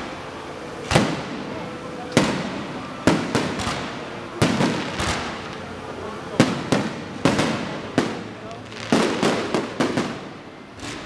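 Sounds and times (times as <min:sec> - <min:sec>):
fireworks bangs with crackle: 0:00.0 - 0:11.0.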